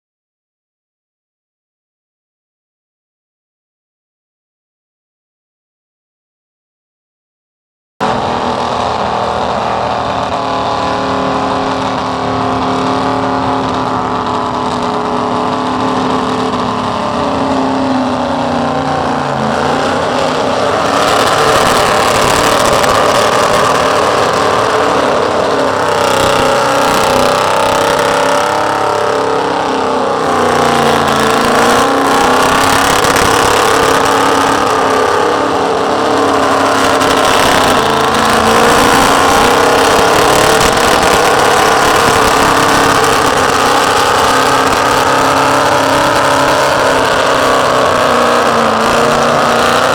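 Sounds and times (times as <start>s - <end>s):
engine revving high: 8.0s - 49.9s.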